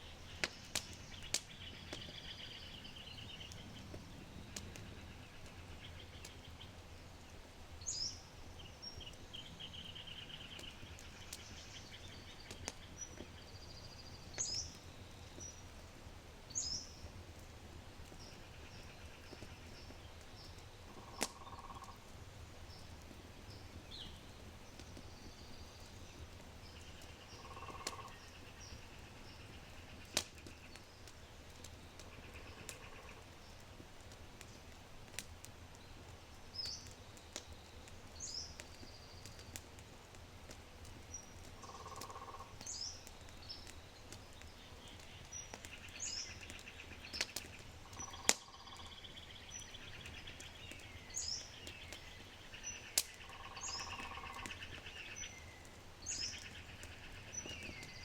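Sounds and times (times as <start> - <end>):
small birds chirping: 0.0 - 15.8, 16.5 - 58.0
fire crackling: 0.0 - 58.0.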